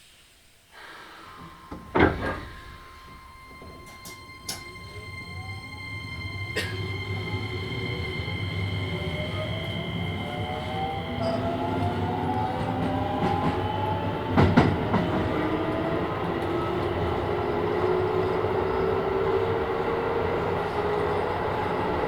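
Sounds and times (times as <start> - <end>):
electric train motors whining: 0.9 - 22.0
train running rumble: 1.3 - 22.0.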